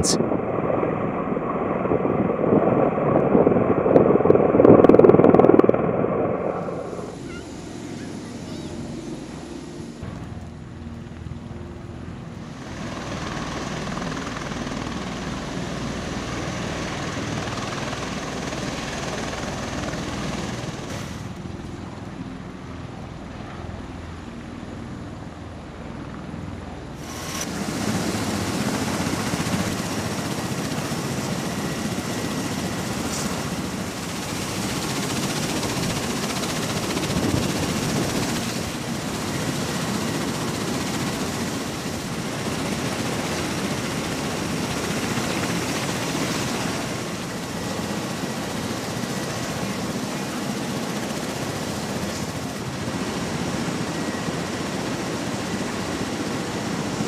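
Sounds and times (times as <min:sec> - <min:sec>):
tiltrotor aircraft flying overhead: 0:00.0 - 0:57.0.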